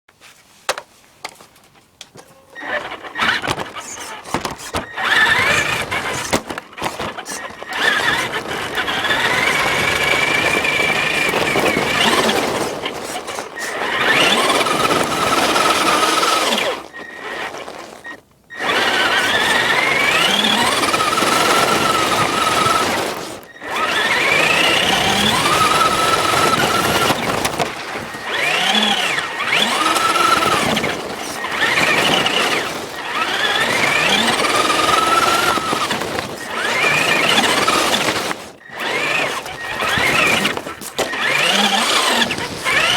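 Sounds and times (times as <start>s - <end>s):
radio-controlled car motor whine: 2.5s - 42.9s.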